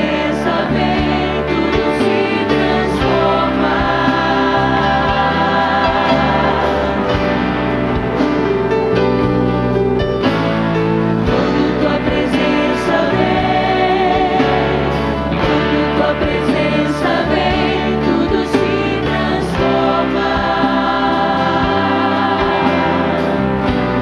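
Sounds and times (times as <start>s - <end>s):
lead singers singing: 0.0s - 8.6s, 11.2s - 24.0s
band with keyboard: 0.0s - 24.0s
crowd singing along: 0.0s - 24.0s.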